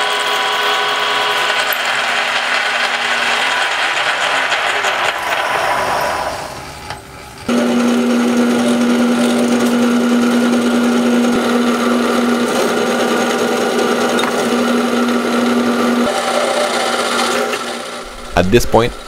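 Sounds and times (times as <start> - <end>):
drill press humming: 0.0 - 19.0.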